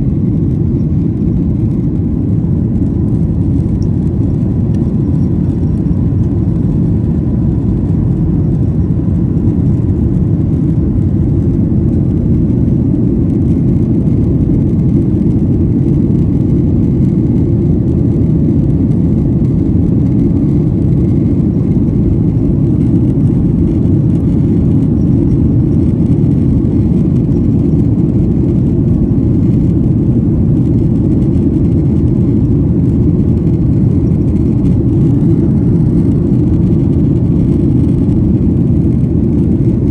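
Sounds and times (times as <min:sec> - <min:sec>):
airliner cabin drone: 0:00.0 - 0:39.9
faint thin whine: 0:00.0 - 0:39.9.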